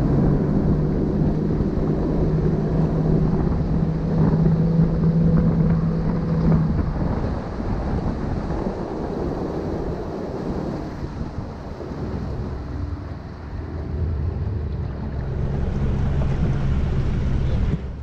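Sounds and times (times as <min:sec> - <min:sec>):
boat motor running: 0:00.0 - 0:18.0
water rushing past hull: 0:00.0 - 0:18.0
wind buffeting microphone: 0:00.0 - 0:18.0.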